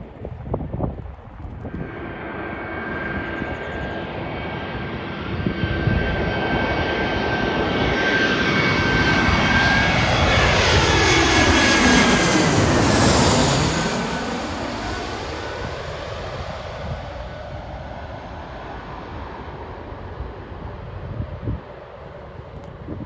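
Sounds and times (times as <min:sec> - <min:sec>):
jet engines passing: 0:00.0 - 0:23.0
high steady engine whine: 0:01.4 - 0:22.2.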